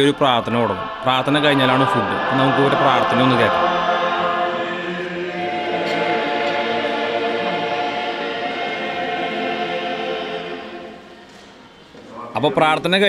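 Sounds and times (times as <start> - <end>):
group singing a hymn: 0.0 - 12.1.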